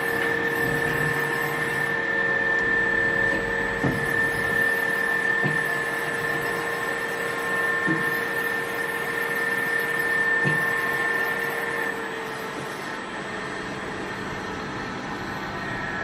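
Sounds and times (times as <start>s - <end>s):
machine high whine: 0.0s - 16.0s
machine low hum: 0.0s - 16.0s.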